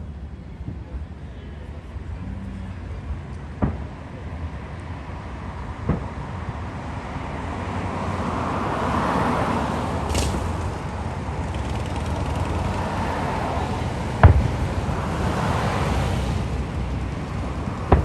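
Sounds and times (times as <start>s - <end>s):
outdoor rumble: 0.0s - 18.0s.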